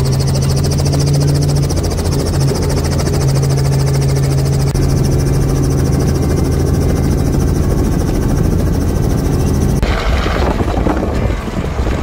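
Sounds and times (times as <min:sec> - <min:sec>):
helicopter engine and rotor: 0:00.0 - 0:09.8.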